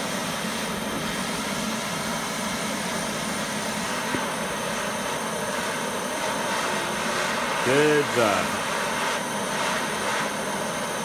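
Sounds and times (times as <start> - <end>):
gas blowtorch hissing: 0.0 - 11.0.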